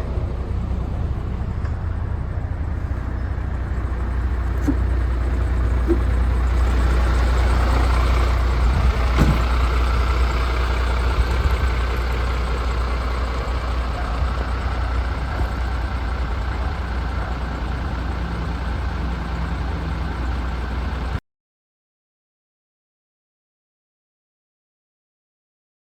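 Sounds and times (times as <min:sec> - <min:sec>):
truck diesel engine humming: 0:00.0 - 0:21.2.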